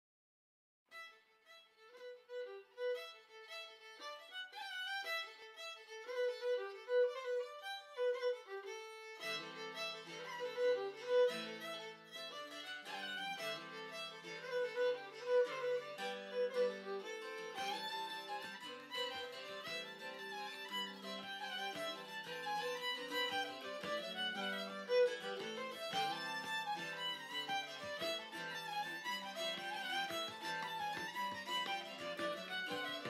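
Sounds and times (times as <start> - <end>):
instrumental music held notes: 1.8 - 33.0.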